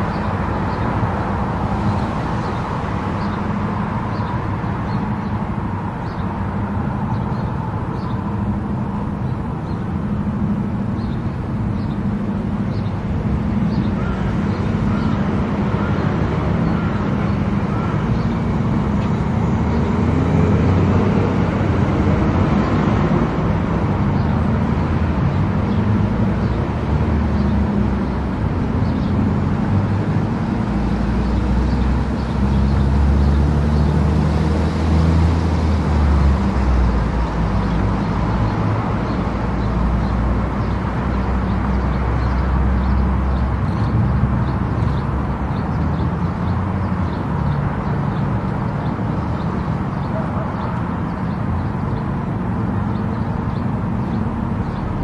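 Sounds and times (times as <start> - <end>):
car engine drone: 0.0 - 55.0
tyre and road rumble: 0.0 - 55.0.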